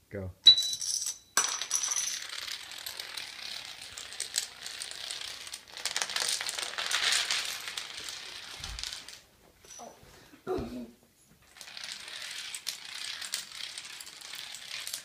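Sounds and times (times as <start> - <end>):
dominoes toppling on wooden floor: 0.8 - 9.9, 11.4 - 15.0.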